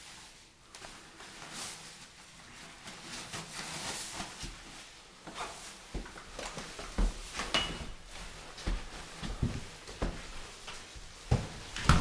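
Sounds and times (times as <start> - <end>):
protective coverall rustling: 0.0 - 12.0.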